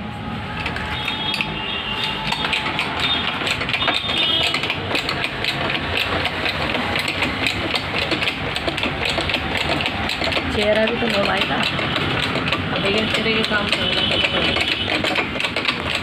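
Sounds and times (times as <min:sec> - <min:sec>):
machine ticking rattle: 0:00.6 - 0:16.0.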